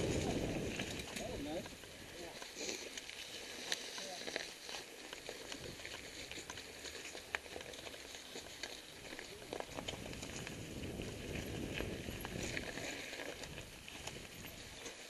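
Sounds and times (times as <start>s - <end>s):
bike clicks and rattles: 0.0s - 15.0s
bike tyres rolling on dirt trail: 0.0s - 15.0s.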